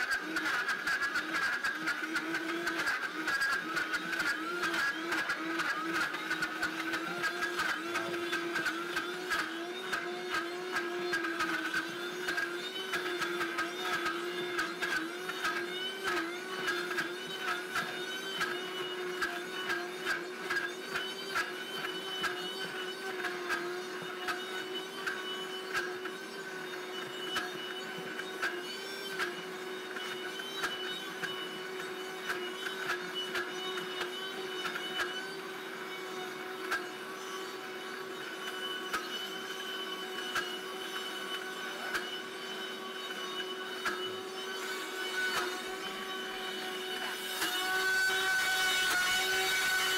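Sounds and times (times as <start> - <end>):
blender motor whining: 0.0 - 49.9.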